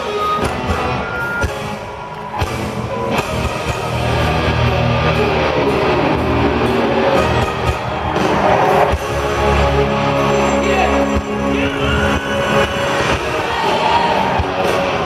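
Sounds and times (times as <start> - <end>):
electric guitar: 0.0 - 15.0
live hard rock band: 0.0 - 15.0.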